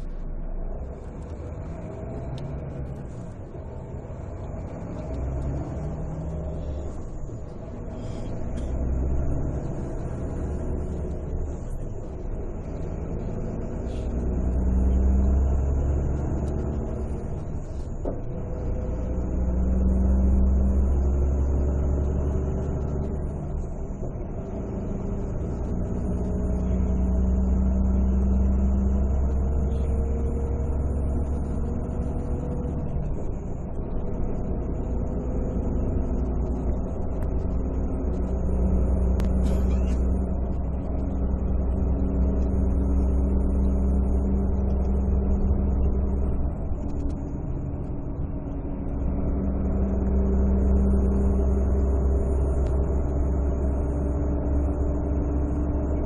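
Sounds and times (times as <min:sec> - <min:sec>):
coach diesel engine running: 0:00.0 - 0:56.0.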